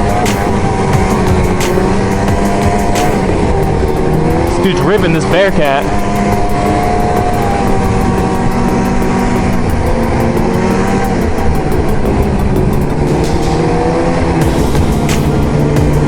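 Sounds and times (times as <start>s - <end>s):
two-stroke snowmobile engine running: 0.0s - 16.0s.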